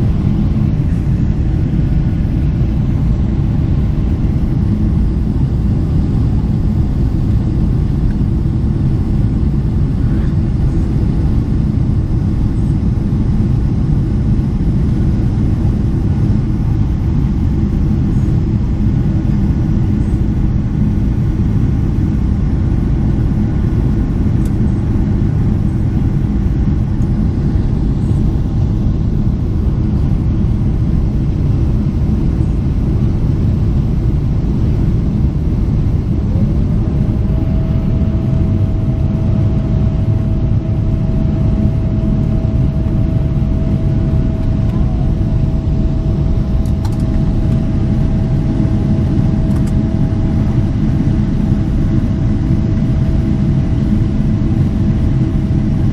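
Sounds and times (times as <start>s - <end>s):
air rushing through cabin: 0.0s - 55.9s
jet engines roaring: 0.0s - 55.9s
thin steady hum: 0.0s - 55.9s.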